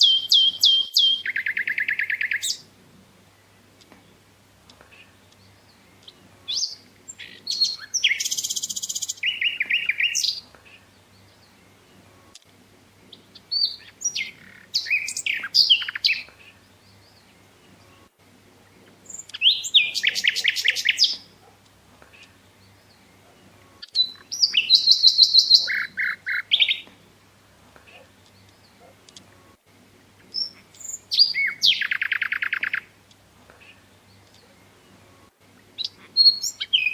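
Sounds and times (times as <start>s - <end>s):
bird chirps and trills: 0.0s - 2.7s, 4.9s - 12.4s, 13.0s - 18.1s, 18.7s - 26.9s, 30.2s - 33.0s, 33.6s - 36.9s
faint low hum: 0.0s - 36.8s.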